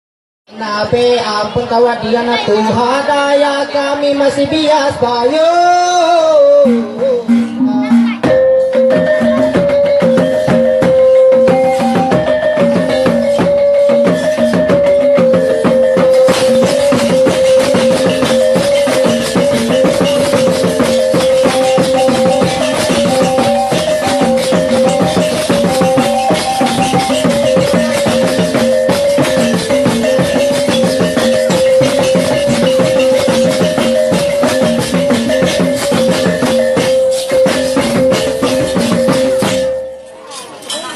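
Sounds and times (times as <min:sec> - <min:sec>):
pitched percussion pattern: 0:00.5 - 0:40.9
drums: 0:04.2 - 0:40.9.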